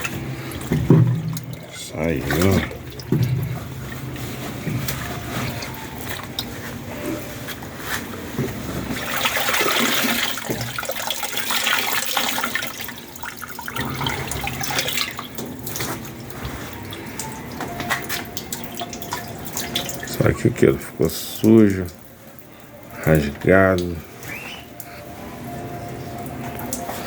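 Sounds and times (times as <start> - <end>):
water sloshing in washing machine: 0.0 - 27.0.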